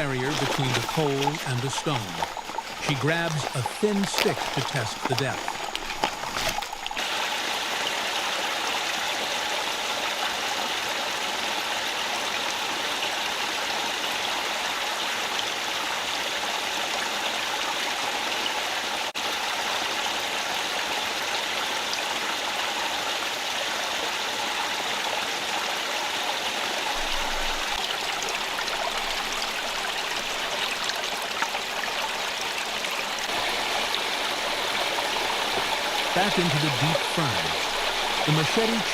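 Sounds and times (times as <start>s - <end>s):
stream rushing over stones: 0.0s - 38.9s.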